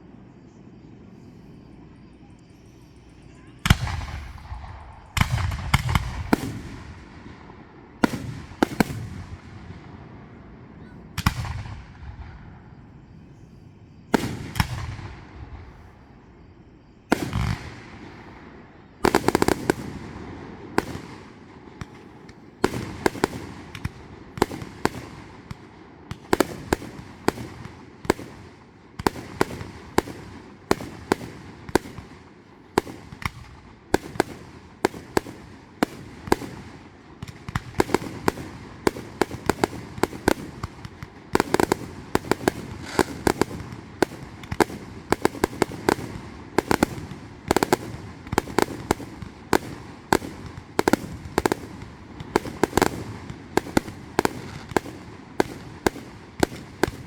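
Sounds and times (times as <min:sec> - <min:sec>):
fireworks bangs: 0:01.6 - 0:13.1, 0:14.1 - 0:57.0.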